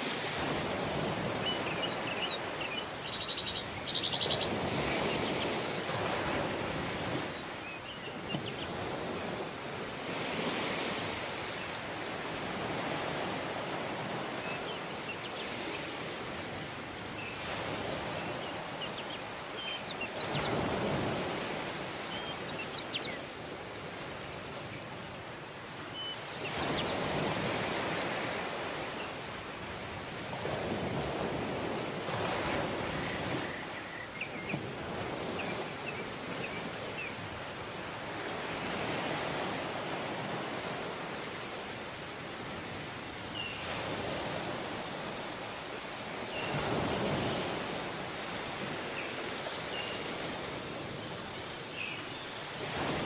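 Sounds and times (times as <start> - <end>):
waves breaking on sand: 0.0 - 53.0.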